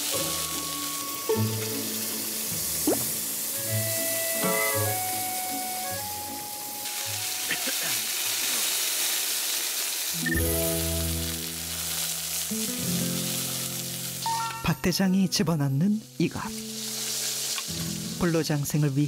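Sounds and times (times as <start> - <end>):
background music: 0.0 - 8.2, 10.2 - 19.0
meat sizzling in a skillet: 0.0 - 14.6, 16.0 - 19.0.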